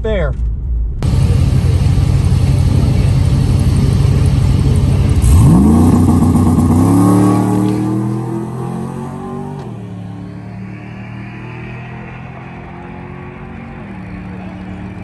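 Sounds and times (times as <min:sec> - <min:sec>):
engines rumbling deeply: 0:00.0 - 0:15.0
engine revving in rising sweep: 0:02.4 - 0:15.0.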